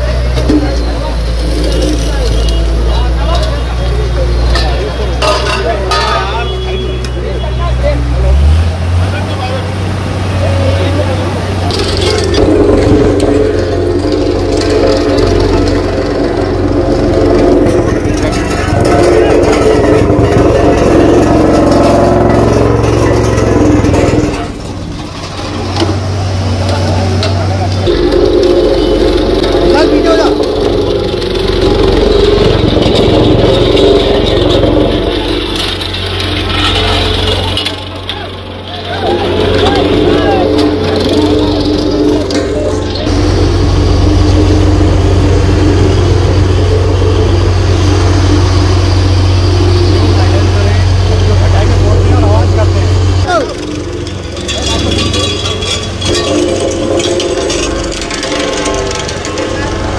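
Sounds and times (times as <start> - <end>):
road roller engine running: 0.0 - 59.9.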